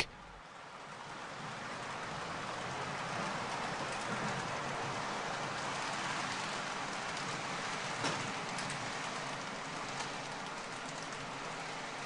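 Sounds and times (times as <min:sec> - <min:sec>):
model train wheels on rails: 0:00.0 - 0:12.0.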